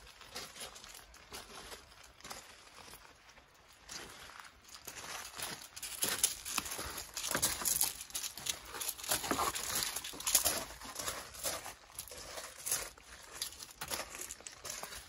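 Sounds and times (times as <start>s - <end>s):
footsteps crunching on gravel: 0.0s - 15.0s
puppy paws scuffing gravel: 0.0s - 15.0s.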